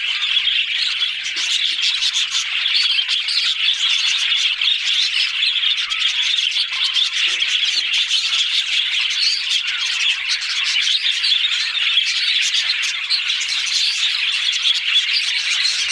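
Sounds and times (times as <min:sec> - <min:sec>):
budgerigars chattering: 0:00.0 - 0:15.9.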